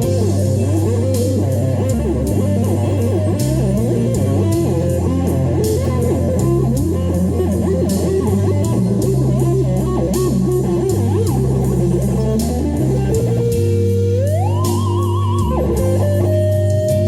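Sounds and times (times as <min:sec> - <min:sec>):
bass and drums backing track: 0:00.0 - 0:17.0
electric guitar lead: 0:00.0 - 0:17.0.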